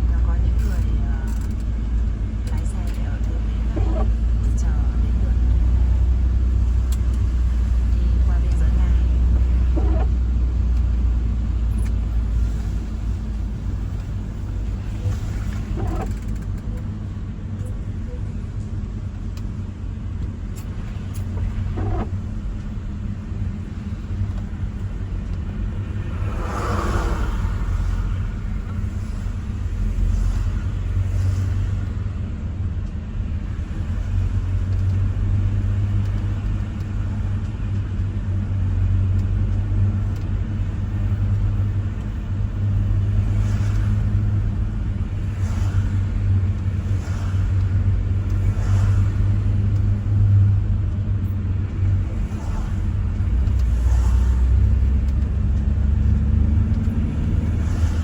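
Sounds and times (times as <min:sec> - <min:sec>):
car rumbling on the move: 0:00.0 - 0:58.0.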